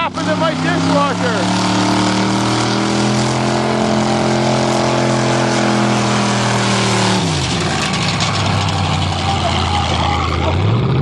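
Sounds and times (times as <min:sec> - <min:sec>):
car engine high revving: 0:00.0 - 0:11.0.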